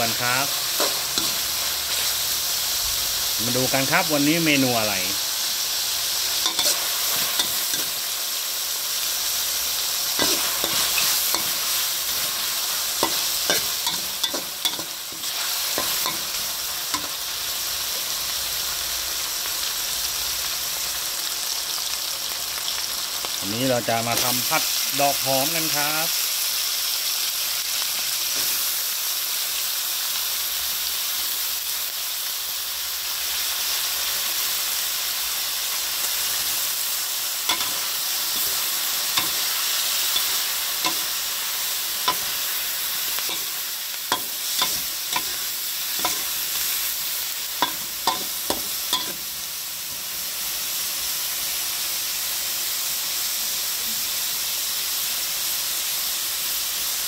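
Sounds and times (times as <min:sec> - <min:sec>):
food sizzling in a wok: 0:00.0 - 0:57.0.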